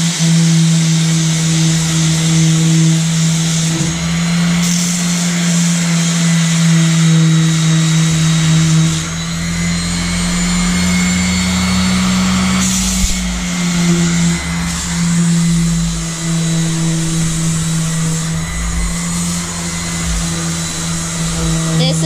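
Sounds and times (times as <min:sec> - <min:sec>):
electric disc sander whining: 0:00.0 - 0:22.0
sanding disc hissing: 0:00.0 - 0:22.0.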